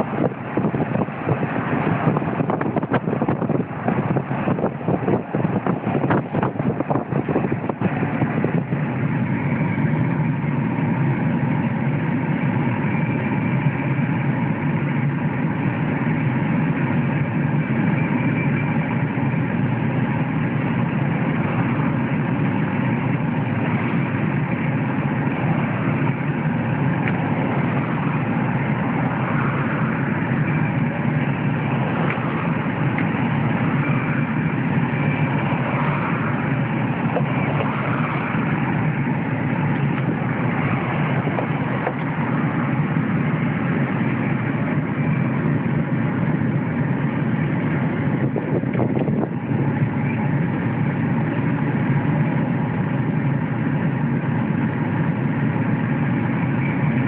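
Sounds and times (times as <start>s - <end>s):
car tyre and engine noise: 0.0s - 57.0s.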